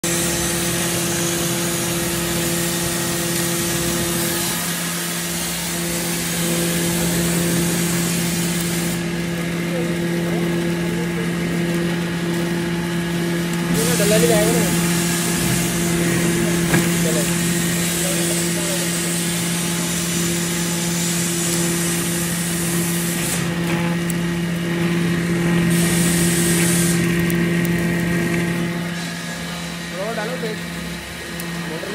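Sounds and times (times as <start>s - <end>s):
grinding machine humming: 0.0s - 31.9s.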